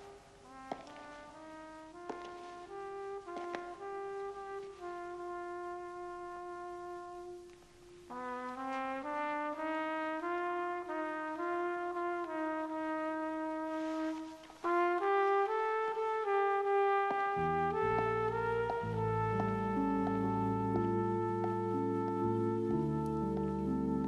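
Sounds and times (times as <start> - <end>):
brass playing orchestral music: 0.0 - 24.0.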